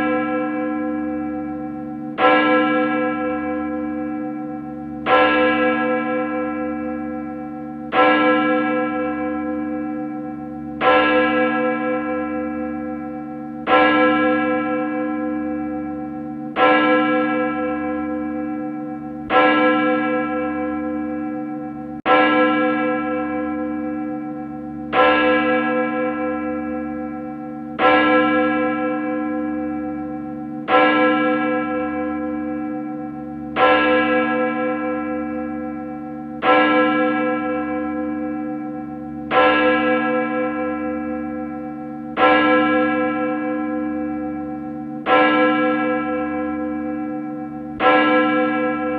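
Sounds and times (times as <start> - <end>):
large bell tolling: 0.0 - 48.9.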